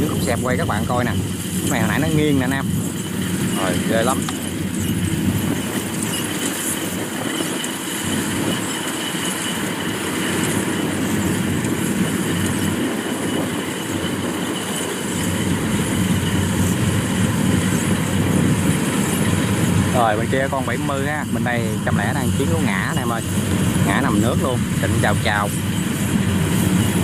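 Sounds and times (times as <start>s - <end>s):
combine harvester engine droning: 0.0s - 27.0s.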